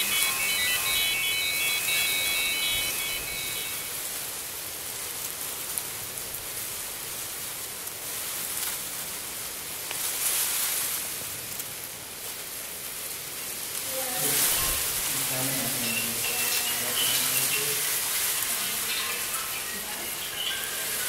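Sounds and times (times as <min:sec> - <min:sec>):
rain-like hiss from loudspeakers: 0:00.0 - 0:21.0.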